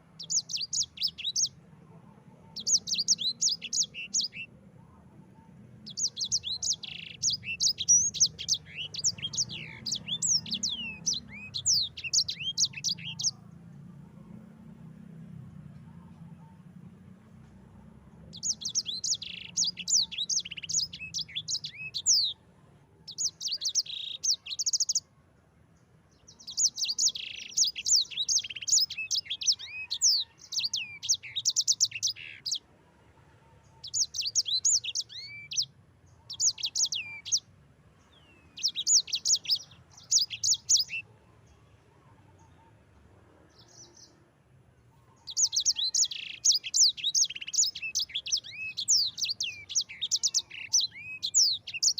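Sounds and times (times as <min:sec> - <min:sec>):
songbird singing: 0:00.0 - 0:32.8, 0:33.4 - 0:51.9.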